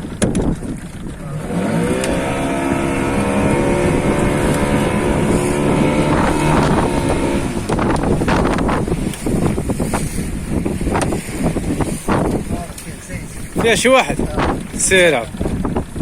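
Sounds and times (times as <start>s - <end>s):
boat engine revving: 0.0s - 16.0s.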